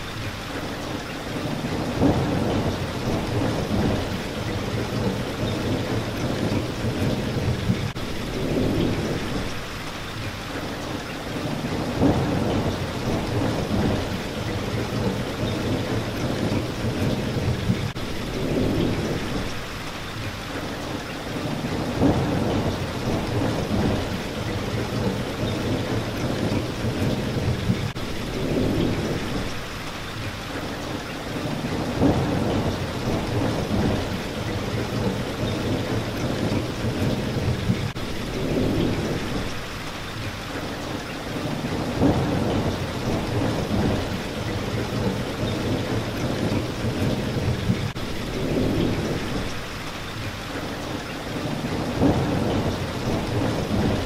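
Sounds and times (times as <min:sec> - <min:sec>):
rain on a window pane: 0:00.0 - 0:54.0
low thunder rumbles: 0:01.4 - 0:09.7, 0:11.4 - 0:19.7, 0:21.4 - 0:29.8, 0:31.4 - 0:39.8, 0:41.4 - 0:49.8, 0:51.4 - 0:54.0.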